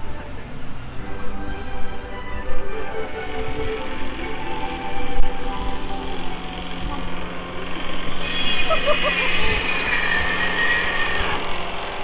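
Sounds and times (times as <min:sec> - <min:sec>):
high-pitched squeal: 0:00.0 - 0:12.0
vehicle traffic noise: 0:00.0 - 0:12.0.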